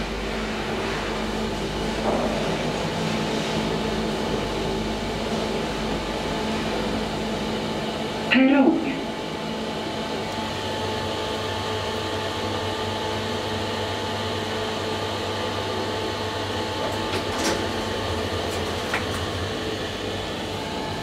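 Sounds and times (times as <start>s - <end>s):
elevator motor hum: 0.0s - 21.0s.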